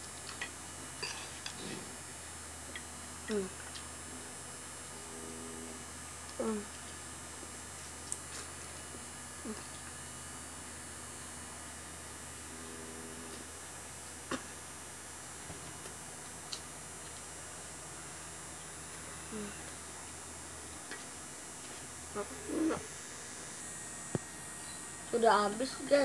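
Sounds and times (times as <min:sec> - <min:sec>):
electric fan humming: 0:00.0 - 0:26.0.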